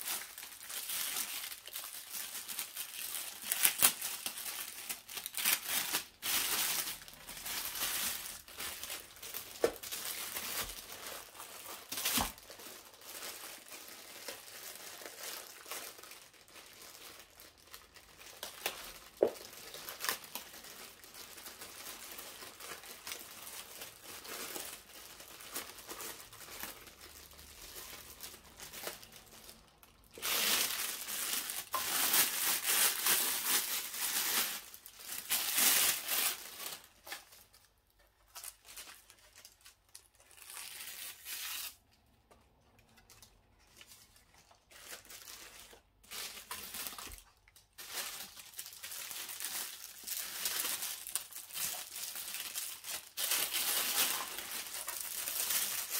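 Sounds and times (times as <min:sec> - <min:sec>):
packaging crinkling and rustling: 0:00.0 - 0:55.9.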